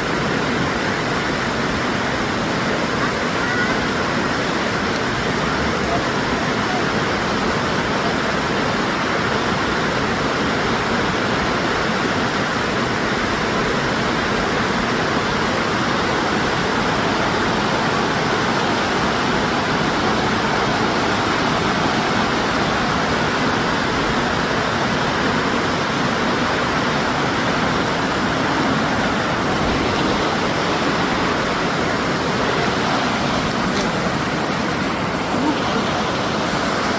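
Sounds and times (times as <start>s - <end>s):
river rapids rushing: 0.0s - 36.9s.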